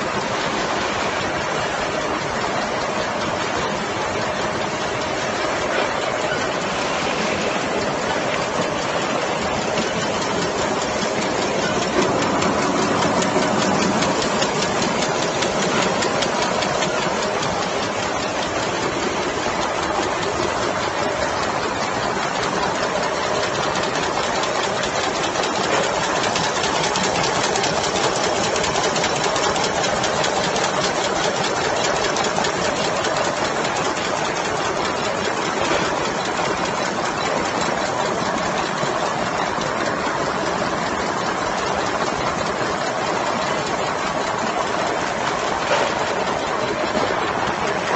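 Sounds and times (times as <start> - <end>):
machine rapid mechanical clatter: 0.0 - 47.9.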